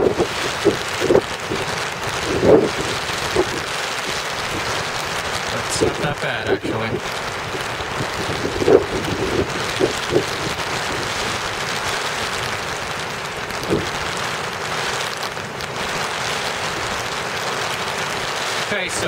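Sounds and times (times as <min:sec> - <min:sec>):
heavy rain on umbrella: 0:00.0 - 0:19.0.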